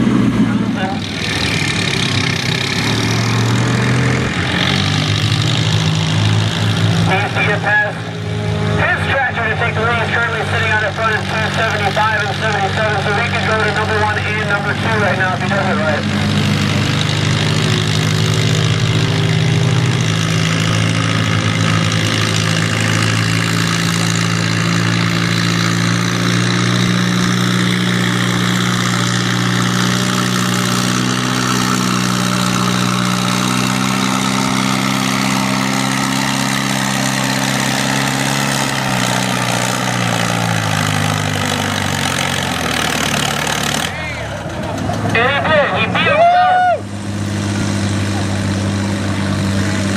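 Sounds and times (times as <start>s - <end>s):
tractor engine running hard: 0.0s - 49.9s.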